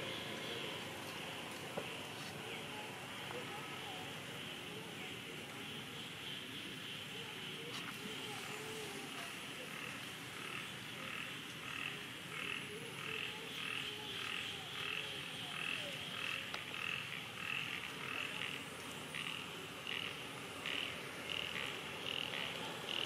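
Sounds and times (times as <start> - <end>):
low outdoor hiss: 0.0 - 23.0.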